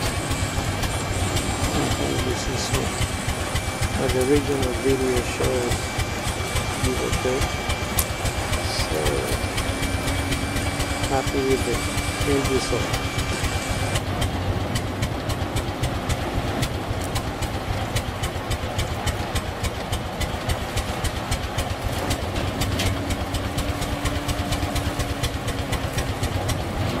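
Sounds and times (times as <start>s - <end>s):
model pumpjack humming and ticking: 0.0s - 27.0s.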